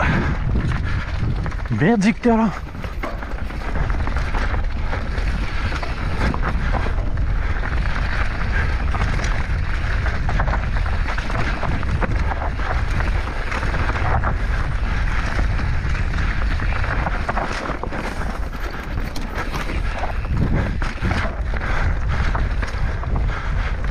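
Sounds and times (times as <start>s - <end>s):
bike rattling over rough ground: 0.0s - 23.9s
wind buffeting microphone: 0.0s - 23.9s.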